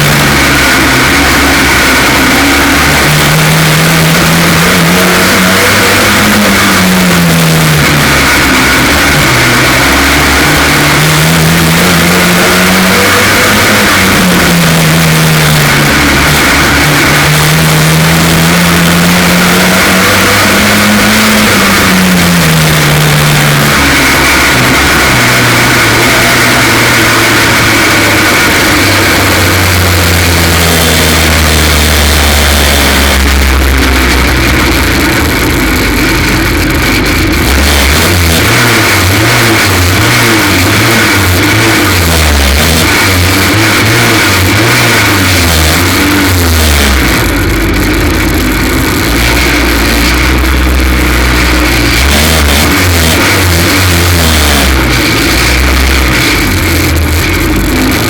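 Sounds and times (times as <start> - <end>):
race car engine misfiring: 0.0 - 58.0.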